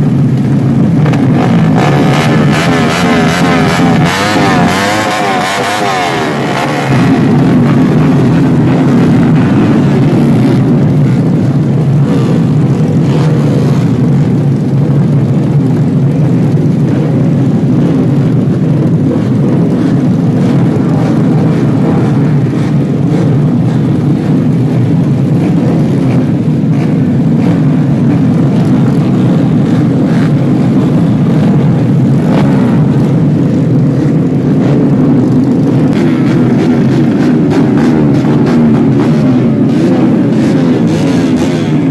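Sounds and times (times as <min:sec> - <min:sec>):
motorcycle engines droning: 0:00.0 - 0:41.9.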